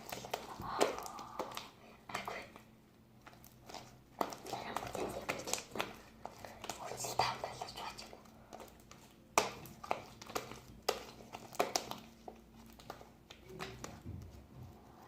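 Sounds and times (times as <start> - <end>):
slime squelching and clicking: 0.0 - 14.0
quiet crinkling: 0.0 - 15.0.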